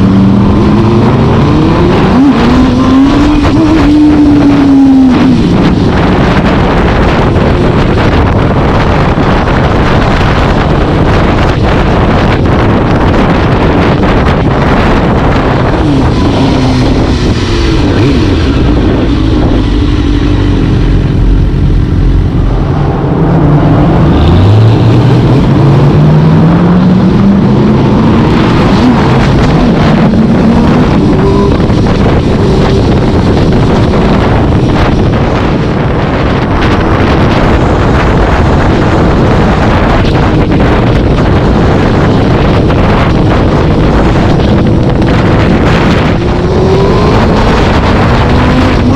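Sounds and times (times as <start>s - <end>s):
engine accelerating hard: 0.0s - 48.9s
wind buffeting microphone: 0.0s - 48.9s.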